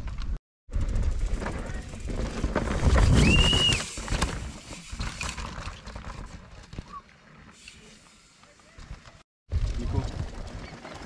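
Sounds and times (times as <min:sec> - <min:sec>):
mountain bike rattling over ground: 0:00.0 - 0:11.0.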